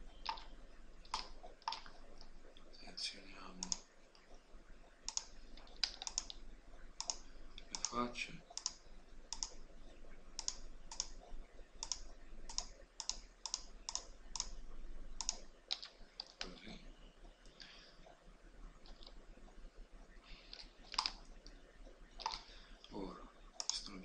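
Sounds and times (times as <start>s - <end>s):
computer mouse clicking: 0.1s - 2.7s, 3.4s - 18.2s, 18.8s - 19.6s, 20.3s - 24.0s.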